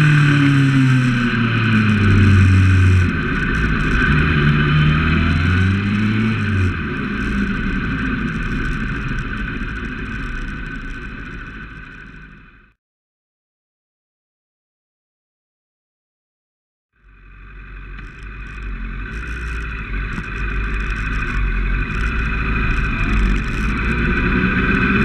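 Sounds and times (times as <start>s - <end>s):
motorcycle engine: 0.0s - 12.7s, 17.0s - 25.0s
road noise: 0.0s - 12.7s, 17.0s - 25.0s.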